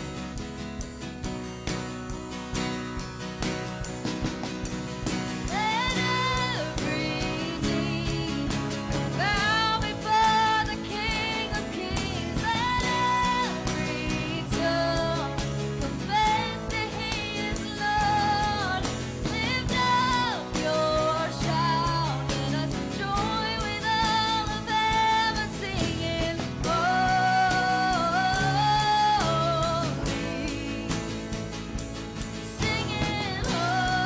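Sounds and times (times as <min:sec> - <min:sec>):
drums: 0:00.0 - 0:34.0
guitars: 0:00.0 - 0:34.0
woman singing: 0:05.1 - 0:34.0.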